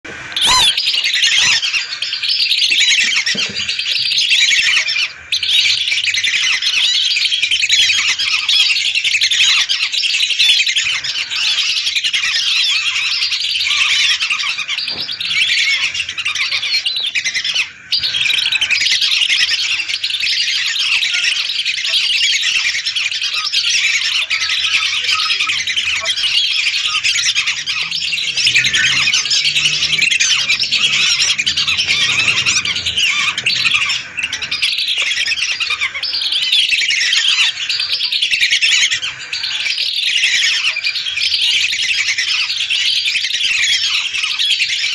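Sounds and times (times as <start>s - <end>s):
flock of ducks whistling: 0.1s - 44.9s.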